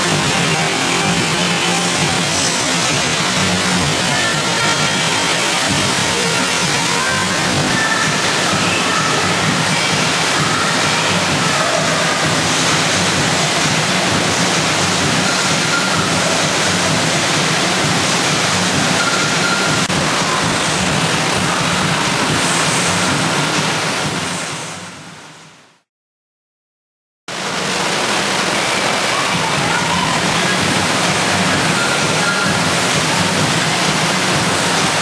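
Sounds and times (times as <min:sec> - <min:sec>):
rushing water of surf wave: 0:00.0 - 0:24.9, 0:27.3 - 0:35.0.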